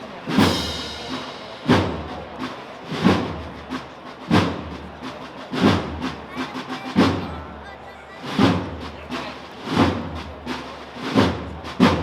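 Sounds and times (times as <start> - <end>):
drum beating slow cadence: 0.0 - 12.0.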